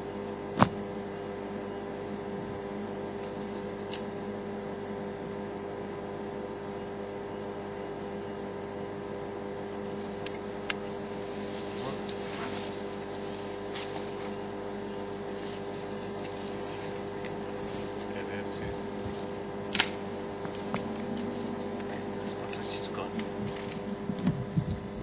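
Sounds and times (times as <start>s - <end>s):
steady tonal hum: 0.0s - 25.0s.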